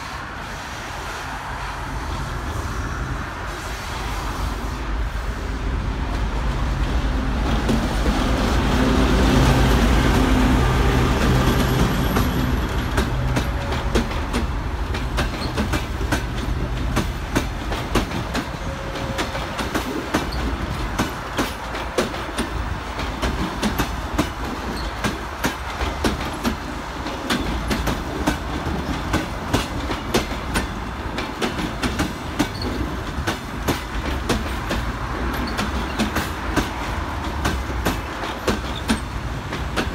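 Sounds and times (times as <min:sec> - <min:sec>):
diesel locomotive engine droning: 0:00.0 - 0:39.9
train wheels clicking over rail joints: 0:06.0 - 0:39.9.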